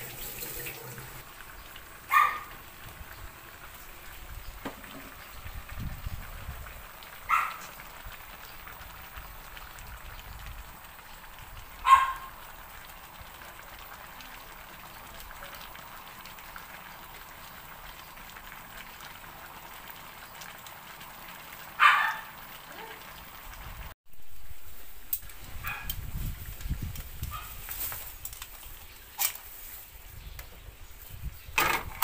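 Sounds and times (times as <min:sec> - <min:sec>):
seafood sizzling in a wok: 0:00.0 - 0:30.3.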